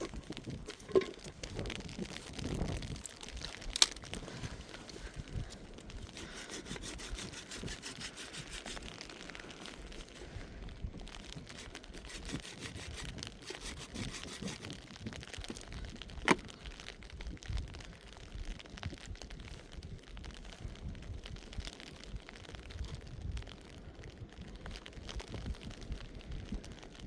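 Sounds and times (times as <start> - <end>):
rustling and crinkling material: 0.0 - 27.0.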